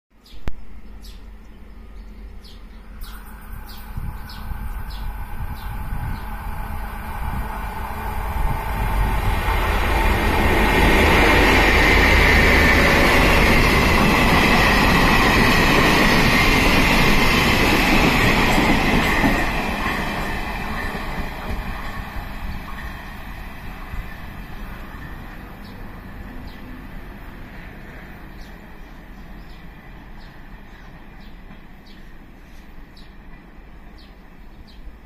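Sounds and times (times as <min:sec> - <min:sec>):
freight train rumbling past: 0:00.7 - 0:35.0.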